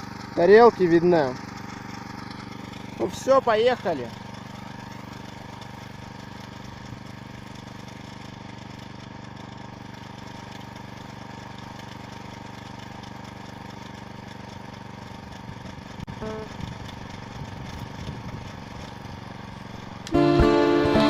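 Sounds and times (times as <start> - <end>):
mower cutting grass: 0.0 - 21.0
petrol engine running: 0.0 - 21.0.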